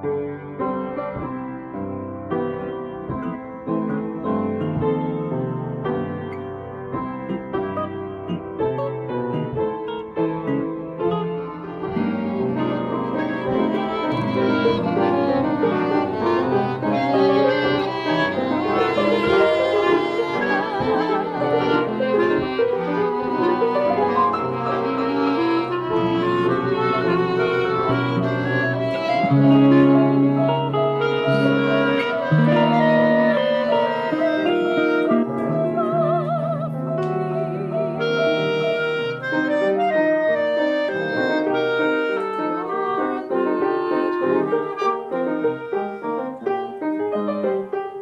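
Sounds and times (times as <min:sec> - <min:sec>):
chamber ensemble music: 0:01.9 - 0:47.9.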